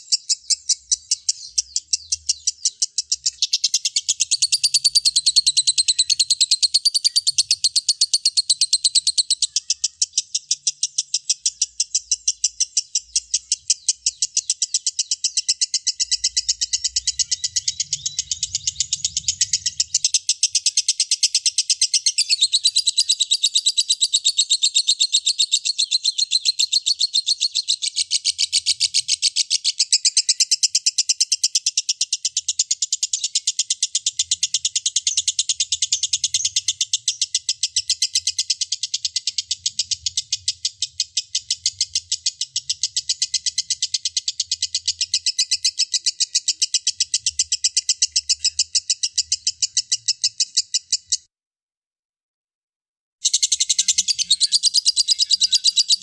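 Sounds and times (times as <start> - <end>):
lovebird chattering trill: 0.0 - 51.3, 53.2 - 56.0.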